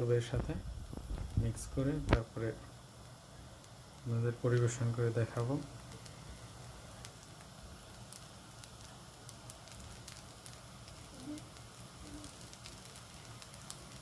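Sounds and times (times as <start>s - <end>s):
food sizzling in a pan: 0.0s - 14.0s
oil crackling and popping: 0.2s - 14.0s.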